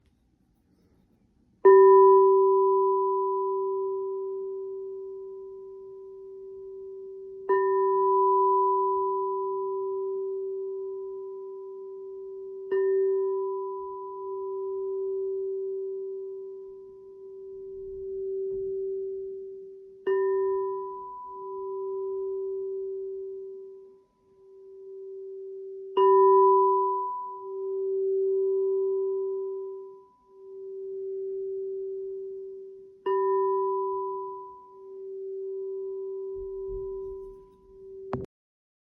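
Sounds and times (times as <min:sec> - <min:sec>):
singing bowl ringing: 0:01.6 - 0:38.1.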